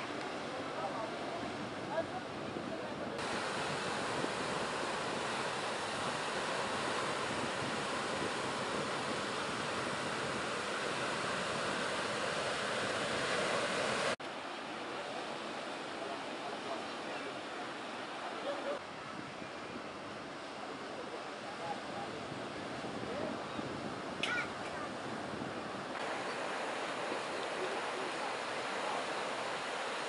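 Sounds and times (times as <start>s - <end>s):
ocean surf breaking: 0.0s - 18.8s, 21.6s - 30.0s.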